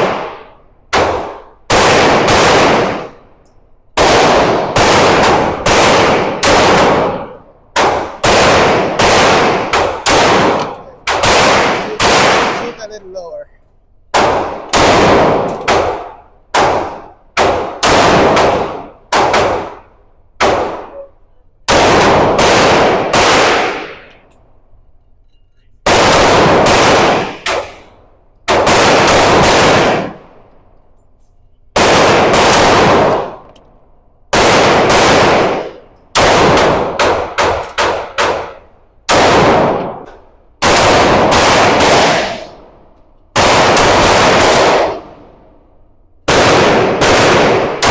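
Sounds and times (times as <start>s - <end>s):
gunshots: 0.0s - 3.3s, 4.0s - 13.2s, 14.1s - 24.3s, 25.8s - 30.4s, 31.7s - 33.6s, 34.3s - 45.4s, 46.2s - 47.9s.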